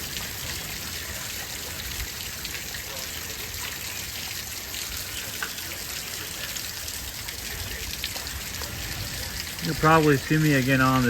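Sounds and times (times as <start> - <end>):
faint raindrop ticks: 0.0 - 11.0
rain falling: 0.0 - 11.0.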